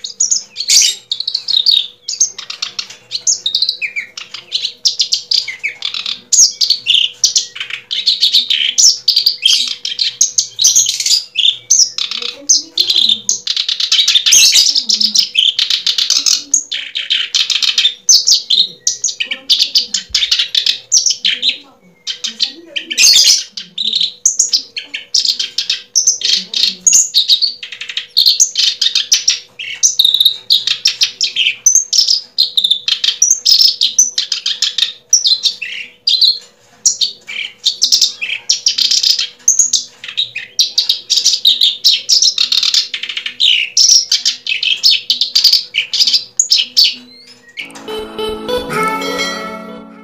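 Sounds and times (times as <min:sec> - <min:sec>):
bird chirping and twittering: 0:00.0 - 0:48.6.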